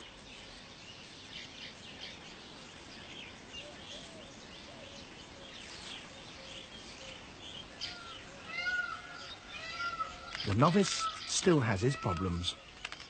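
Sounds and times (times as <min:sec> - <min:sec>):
weaverbirds chirping: 0:00.0 - 0:13.0.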